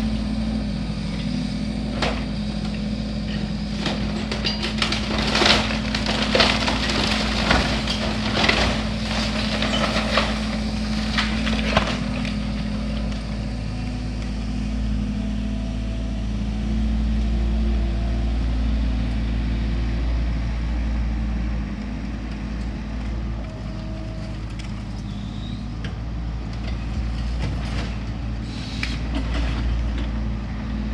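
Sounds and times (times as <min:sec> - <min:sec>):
diesel engine droning: 0:00.0 - 0:30.9.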